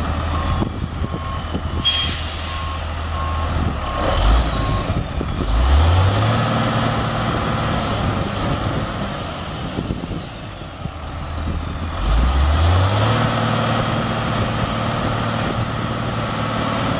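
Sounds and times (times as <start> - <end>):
diesel truck engine revving: 0.0 - 16.9.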